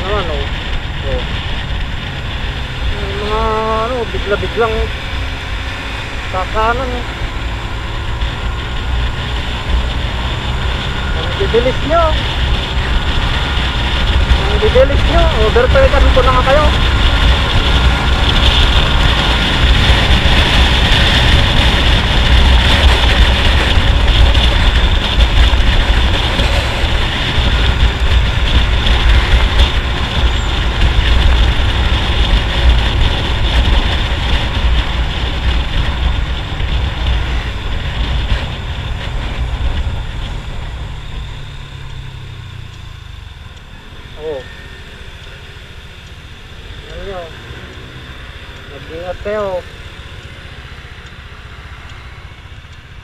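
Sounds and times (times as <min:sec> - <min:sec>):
scooter engine running: 0:00.0 - 0:53.0
wind rushing over microphone: 0:00.0 - 0:53.0.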